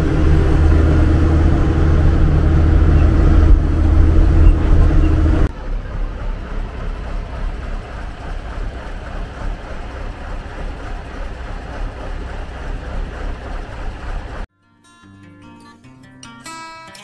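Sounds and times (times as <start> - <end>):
diesel truck engine droning: 0.0 - 14.5
road noise: 0.0 - 14.5.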